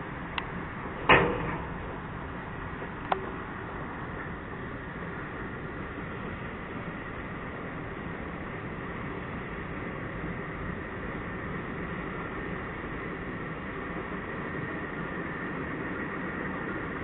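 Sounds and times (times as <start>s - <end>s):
freight train wheels on rail: 0.0s - 17.0s.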